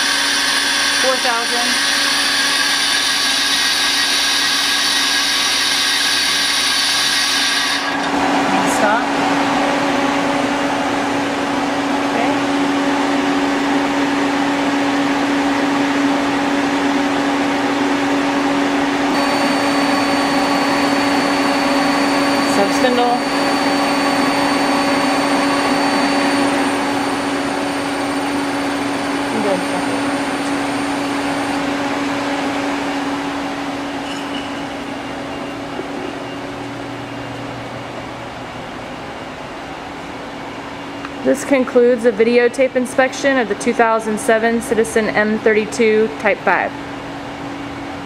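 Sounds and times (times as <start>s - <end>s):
lathe whirring hum: 0.0s - 42.4s.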